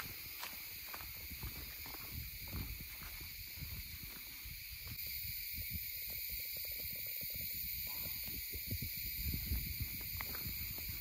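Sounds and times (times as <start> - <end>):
footsteps thudding on trail: 0.0 - 11.0
insects chorus: 0.0 - 11.0.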